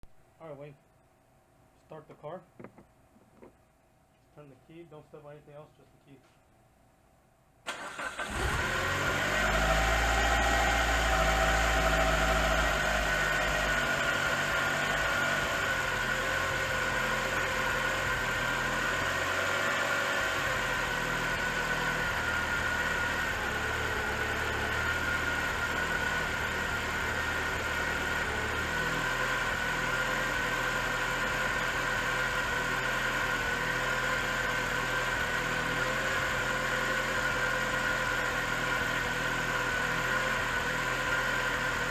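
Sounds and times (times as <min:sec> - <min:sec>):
car engine idling: 0:07.7 - 0:41.9.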